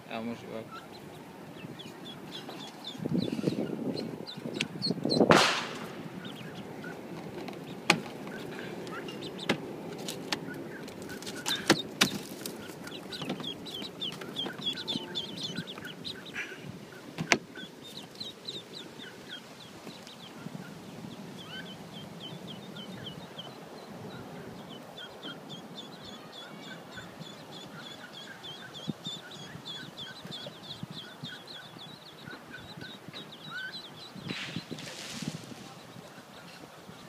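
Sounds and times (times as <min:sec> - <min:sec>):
ducklings peeping: 0:00.0 - 0:37.0.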